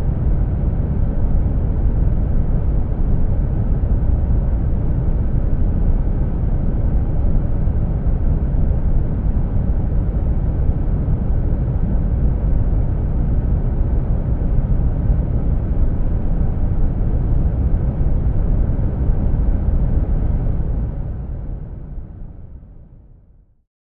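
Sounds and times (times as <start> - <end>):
deep brown noise: 0.0 - 22.9.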